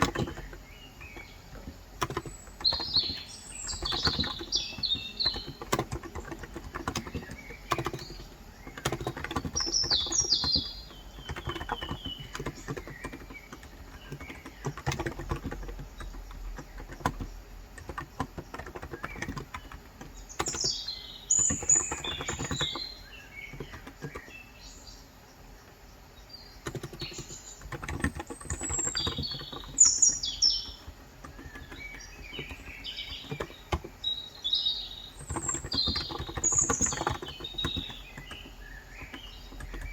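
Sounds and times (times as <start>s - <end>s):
keyboard key clicks: 0.0s - 24.4s, 26.6s - 34.1s, 35.1s - 39.9s
small birds chirping: 0.0s - 39.9s.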